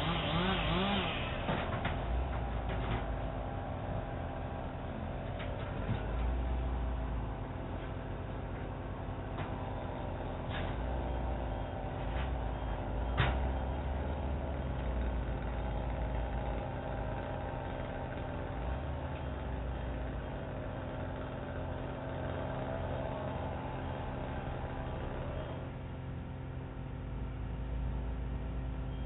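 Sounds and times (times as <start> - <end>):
large engine rumbling: 0.0 - 29.0.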